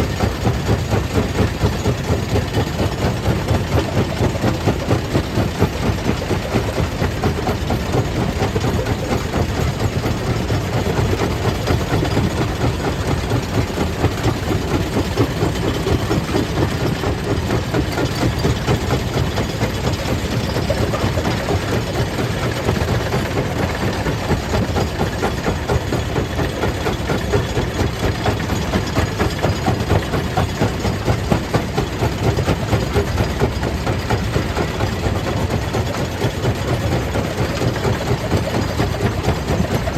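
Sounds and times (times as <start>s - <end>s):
stone crusher machinery drone: 0.0s - 39.9s.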